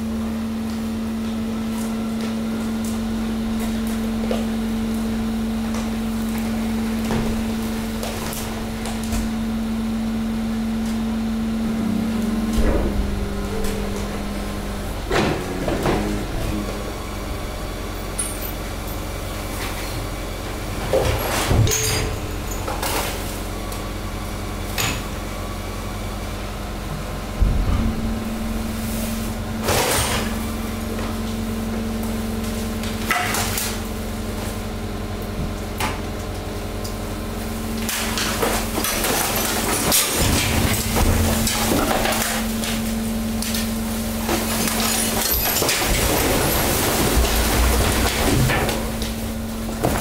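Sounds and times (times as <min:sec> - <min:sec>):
pump motor humming: 0:00.0 - 0:50.0.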